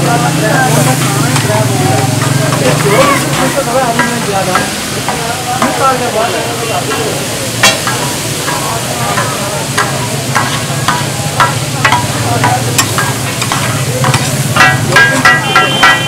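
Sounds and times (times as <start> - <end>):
chicken sizzling in oil: 0.0 - 16.0
metal spatula scraping and tapping: 0.8 - 6.0, 6.8 - 16.0.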